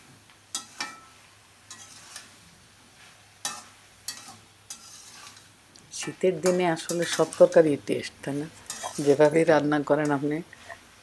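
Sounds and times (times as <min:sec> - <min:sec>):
soft sizzle: 0:00.0 - 0:11.0
metal spatula scraping a pan: 0:00.5 - 0:02.4, 0:03.0 - 0:10.8.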